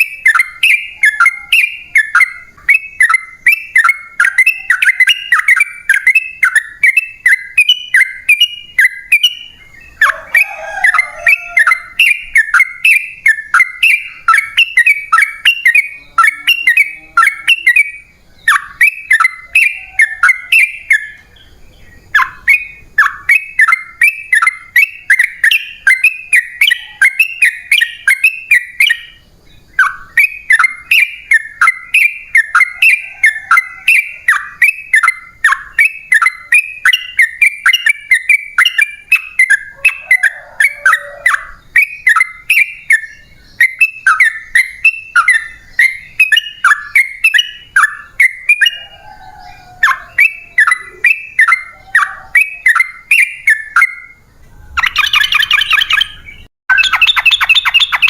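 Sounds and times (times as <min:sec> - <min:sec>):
harsh buzzy bird call: 0:00.0 - 0:58.0.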